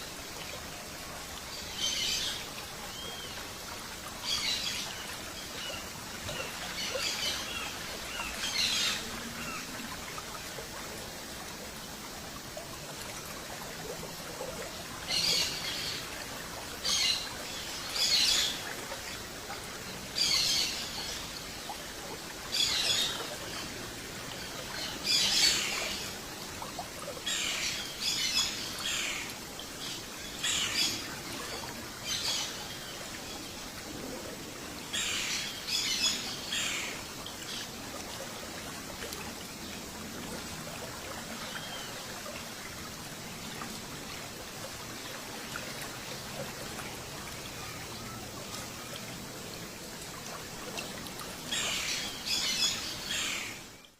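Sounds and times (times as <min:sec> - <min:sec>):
steady background hiss: 0:00.0 - 0:53.9.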